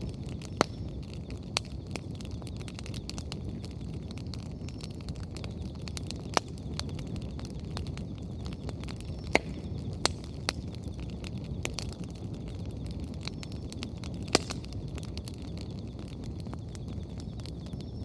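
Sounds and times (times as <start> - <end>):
firewood pops: 0.0 - 3.8, 4.6 - 12.6, 13.2 - 16.2
bonfire burning and crackling: 0.0 - 18.0.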